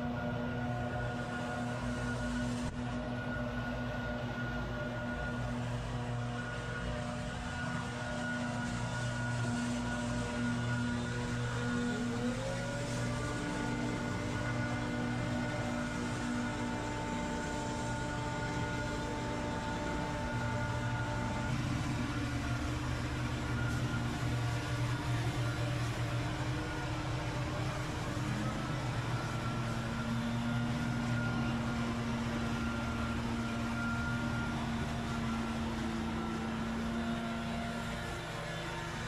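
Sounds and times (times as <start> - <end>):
power equipment engine running: 0.0 - 39.0.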